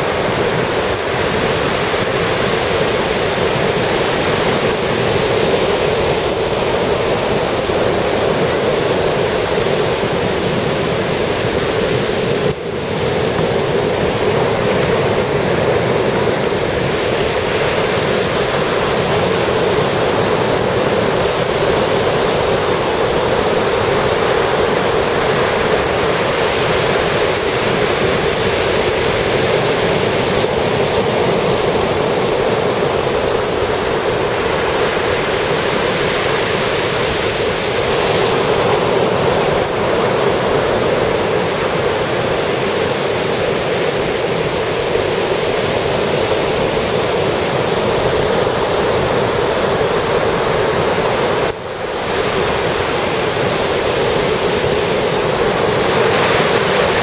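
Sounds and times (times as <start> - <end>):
ocean surf on sandy beach: 0.0 - 57.0.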